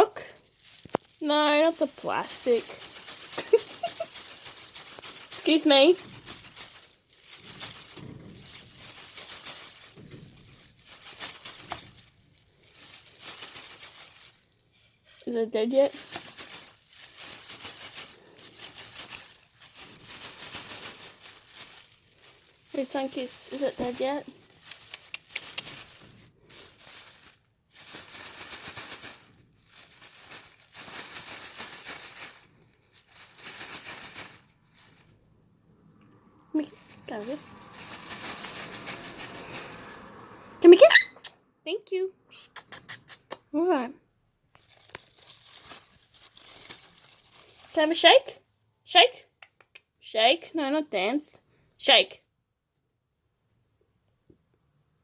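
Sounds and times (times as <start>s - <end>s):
bird beak crinkling object: 0.1s - 40.3s, 44.5s - 48.4s.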